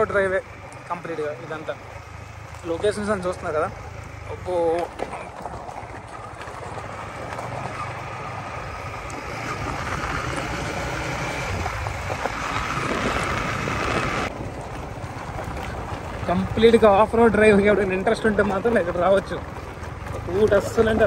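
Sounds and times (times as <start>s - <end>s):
motorcycle engine rumble: 0.0s - 21.0s
road noise on gravel: 0.0s - 21.0s.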